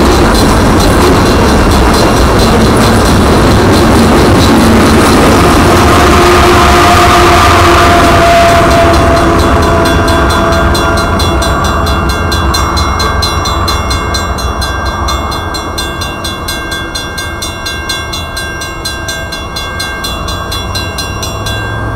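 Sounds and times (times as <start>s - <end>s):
freight train rumble: 0.0s - 21.9s
railroad crossing bell ringing: 0.0s - 21.9s.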